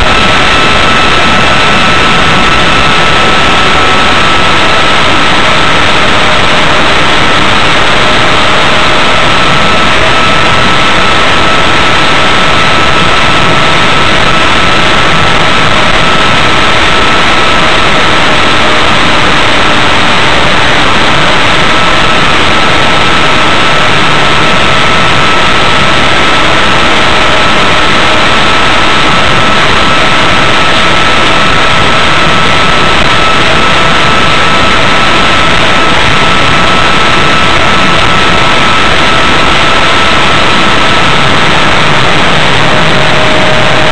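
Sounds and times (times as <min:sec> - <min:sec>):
electric motor and propeller whine: 0:00.0 - 0:43.9
loud rushing noise: 0:00.0 - 0:43.9.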